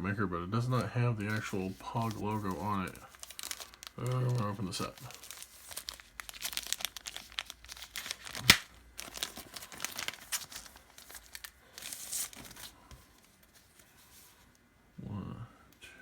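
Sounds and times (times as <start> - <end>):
packaging wrap crinkling and tearing: 1.2 - 14.3.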